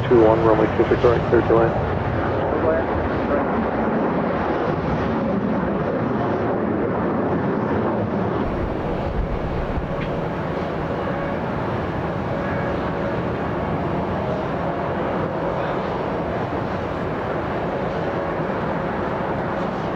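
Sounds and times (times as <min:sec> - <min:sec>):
jet engines rumbling: 0:00.0 - 0:06.4, 0:08.4 - 0:19.9.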